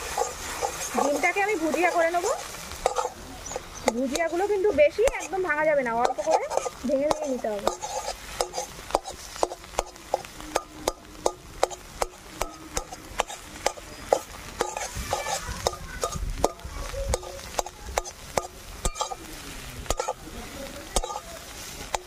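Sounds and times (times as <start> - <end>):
egg sizzling: 0.0 - 22.0
metal spatula scraping pan: 0.0 - 22.0.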